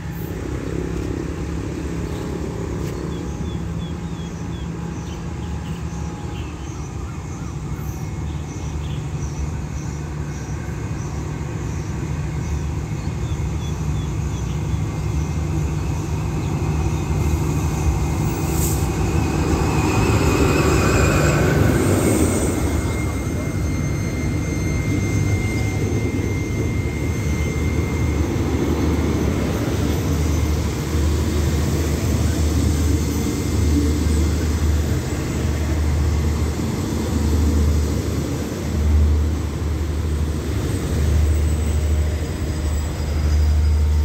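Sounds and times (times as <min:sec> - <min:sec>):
diesel locomotive engine hum: 0:00.0 - 0:44.0.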